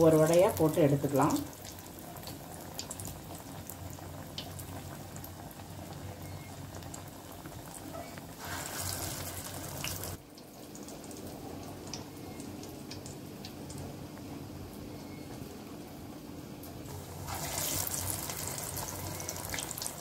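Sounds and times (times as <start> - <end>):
food deep-frying in oil: 0.0 - 15.8, 16.6 - 20.0.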